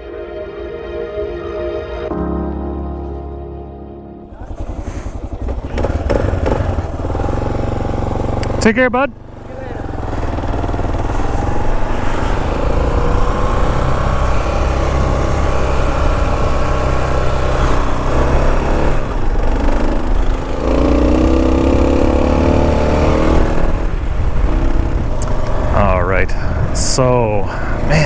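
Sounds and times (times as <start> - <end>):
motorcycle engine running: 4.2 - 27.0.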